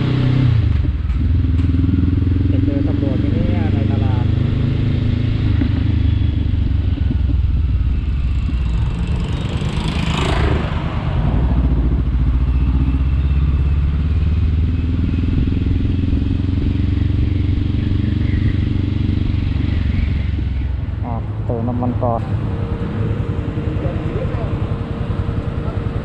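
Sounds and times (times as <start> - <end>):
motorcycle engine riding: 0.0 - 26.0.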